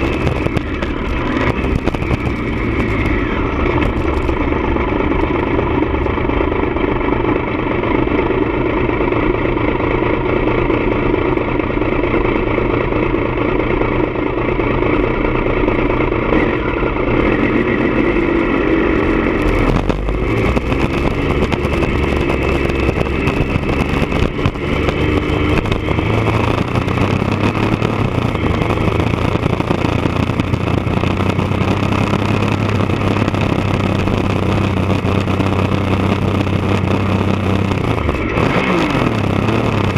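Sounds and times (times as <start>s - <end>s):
low rumble: 0.0s - 39.9s
motorcycle engine running: 0.0s - 39.9s.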